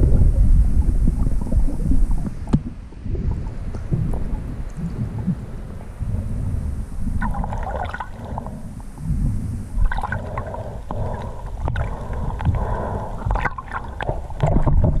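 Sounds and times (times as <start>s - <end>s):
wind buffeting: 0.0s - 13.2s
low rumble of water: 0.0s - 15.0s
water sloshing against camera: 0.0s - 15.0s.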